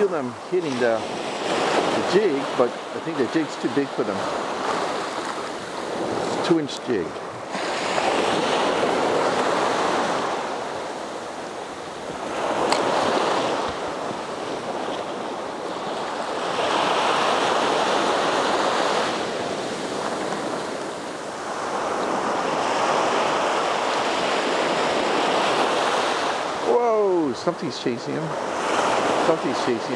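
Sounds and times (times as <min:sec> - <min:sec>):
small waves breaking on beach: 0:00.0 - 0:29.9.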